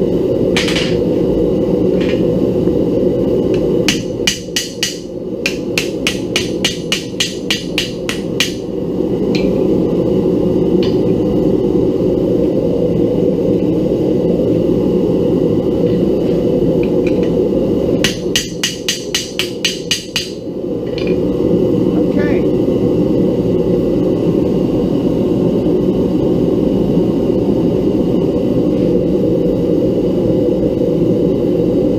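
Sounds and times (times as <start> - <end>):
gas burner roaring: 0.0 - 31.9.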